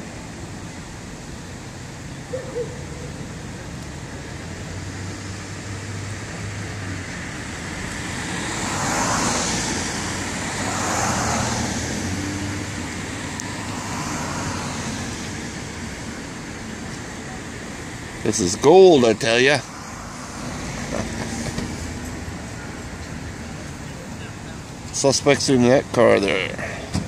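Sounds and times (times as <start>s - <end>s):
low traffic hum: 0.0s - 27.0s
vehicles passing close by: 0.0s - 27.0s.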